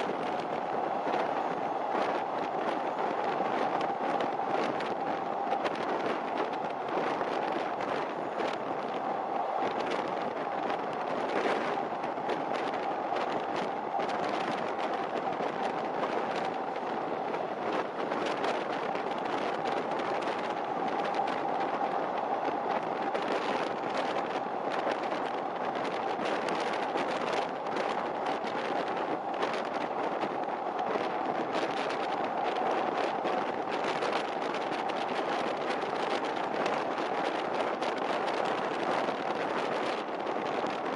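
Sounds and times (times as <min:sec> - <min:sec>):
constant whine: 0:00.0 - 0:40.9
train wheels rushing on rail: 0:00.0 - 0:40.9.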